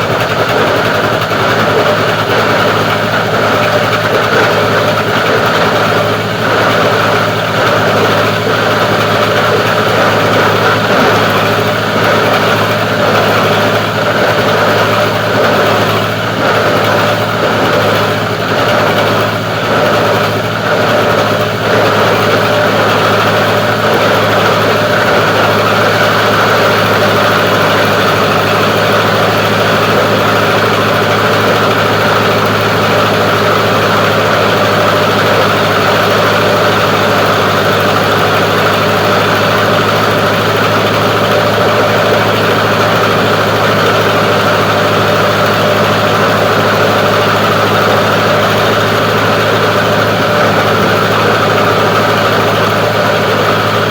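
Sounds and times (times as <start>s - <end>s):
plastic grinder machine running: 0.0s - 53.9s.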